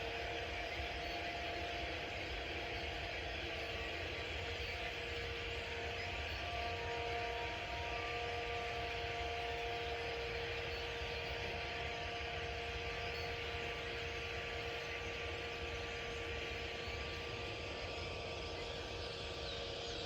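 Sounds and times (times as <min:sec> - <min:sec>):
faint humming tones: 0:00.0 - 0:20.0.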